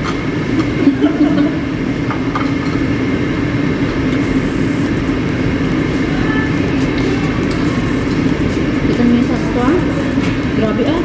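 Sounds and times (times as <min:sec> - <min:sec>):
mechanical hum with low drone: 0:00.0 - 0:11.0.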